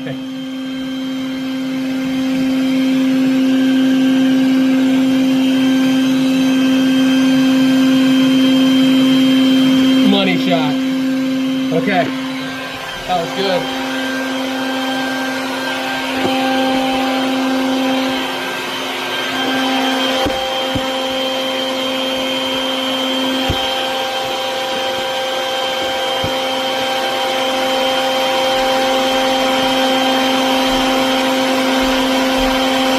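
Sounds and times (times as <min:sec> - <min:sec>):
vacuum motor humming: 0:00.0 - 0:32.9.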